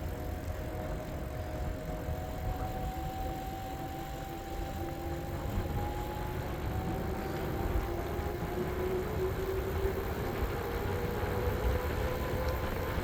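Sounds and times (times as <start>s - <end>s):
electric bike motor whine: 0.0s - 13.0s
low wind: 0.0s - 13.0s
road rumble: 0.0s - 13.0s.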